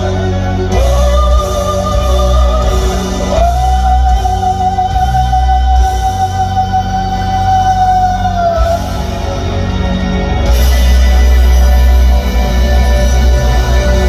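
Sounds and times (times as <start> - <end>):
steady bass: 0.0 - 14.0.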